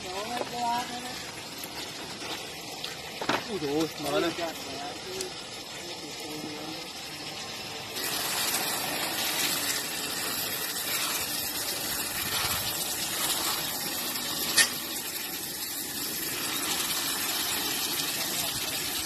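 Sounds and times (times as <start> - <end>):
running water gushing: 0.0 - 19.0.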